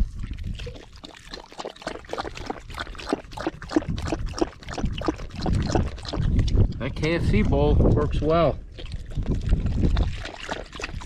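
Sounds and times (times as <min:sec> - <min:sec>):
dog lapping water: 0:00.0 - 0:07.9, 0:08.6 - 0:11.0.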